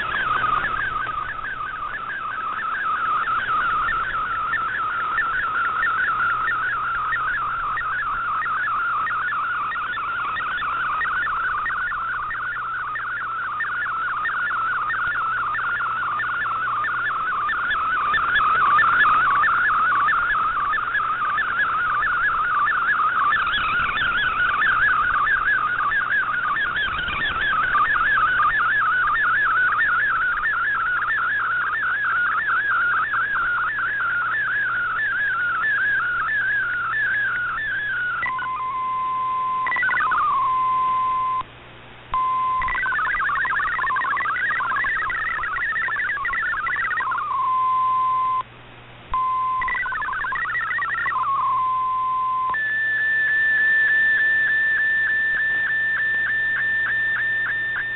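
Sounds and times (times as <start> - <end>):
steady beeping tones: 0.0 - 41.5, 42.1 - 48.5, 49.2 - 57.9
warbling digital data tones: 0.0 - 41.5, 42.1 - 48.5, 49.1 - 57.9
faint radio hiss: 0.0 - 57.9.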